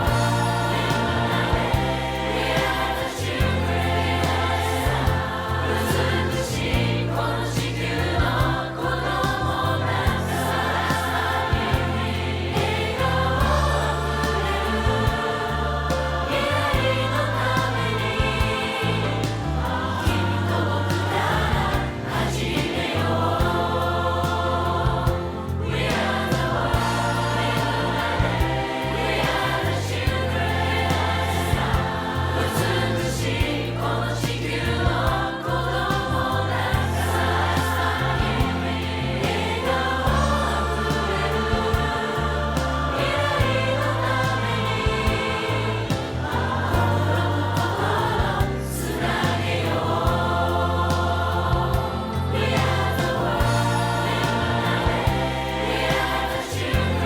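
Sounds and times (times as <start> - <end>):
choir-like song over bass and beat: 0.0 - 57.0.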